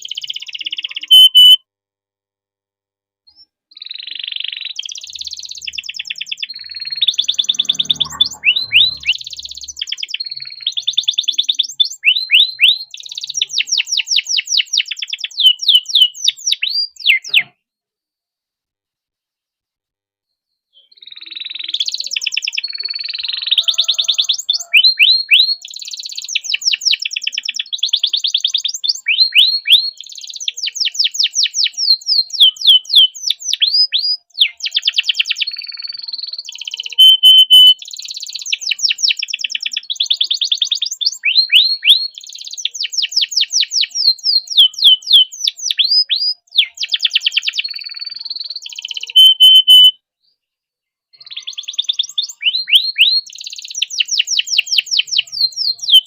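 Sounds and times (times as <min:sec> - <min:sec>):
canary singing trills: 0:00.0 - 0:01.6, 0:03.3 - 0:17.6, 0:20.8 - 0:50.0, 0:51.1 - 0:56.0.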